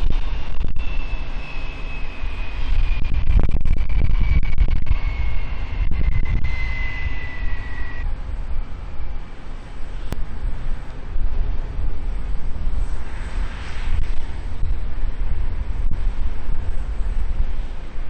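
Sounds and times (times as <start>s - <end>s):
high engine whine falling in pitch: 0.0s - 18.0s
jet airliner engines rumbling: 0.0s - 18.0s.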